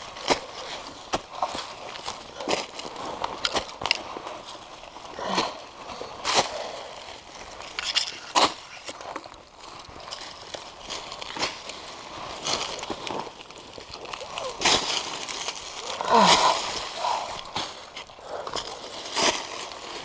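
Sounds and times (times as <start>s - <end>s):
dry leaves and dirt crunching: 0.0s - 20.0s.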